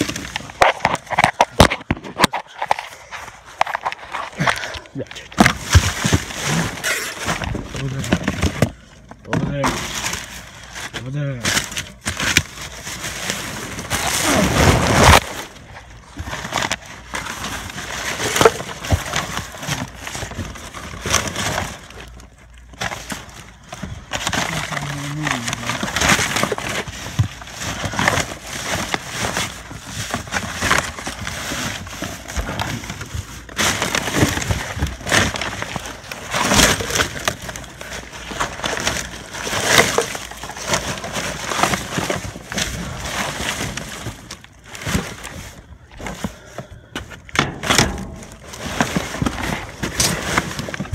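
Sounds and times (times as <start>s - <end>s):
cardboard and paper crunching: 0.0s - 50.9s
plastic bags crinkling: 0.0s - 50.9s.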